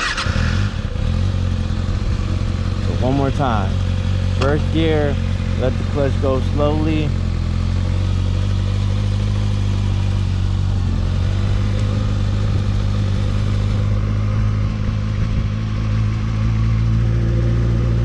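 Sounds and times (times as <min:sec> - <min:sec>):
motorcycle engine pulling away: 0:00.0 - 0:18.0.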